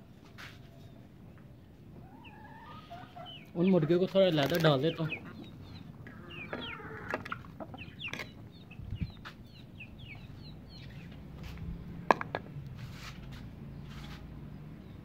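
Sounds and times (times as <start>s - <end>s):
chickens chirping: 0.0s - 15.0s.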